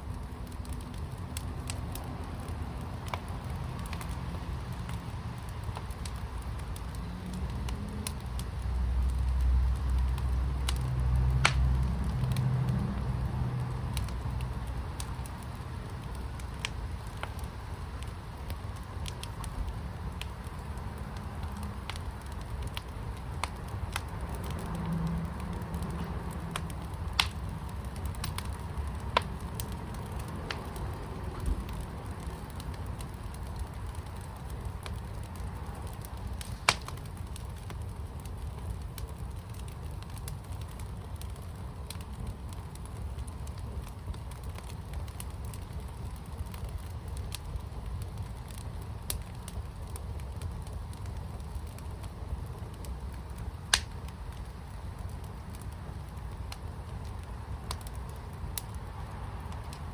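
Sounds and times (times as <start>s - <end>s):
fire burning with low rumble: 0.0s - 59.9s
fire crackles and pops: 0.0s - 59.9s.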